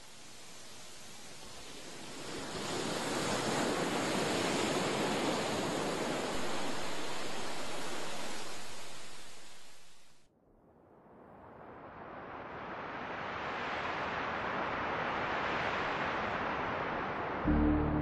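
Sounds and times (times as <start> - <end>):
ocean surf washing onto beach: 0.0 - 10.0, 12.6 - 17.4.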